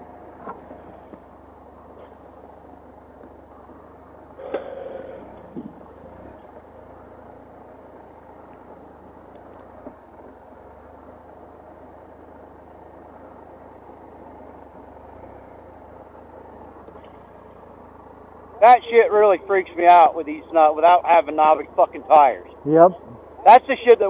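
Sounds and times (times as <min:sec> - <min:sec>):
motorcycle engine running at low revs: 0:00.0 - 0:19.8.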